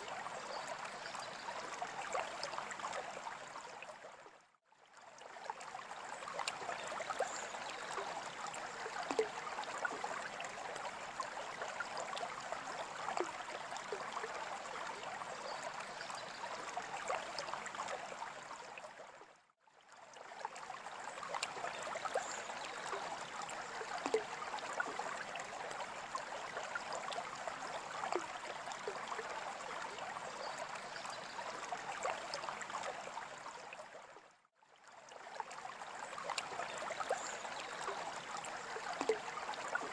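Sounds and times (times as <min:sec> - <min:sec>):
aquarium water trickling and bubbling: 0:00.0 - 0:39.9.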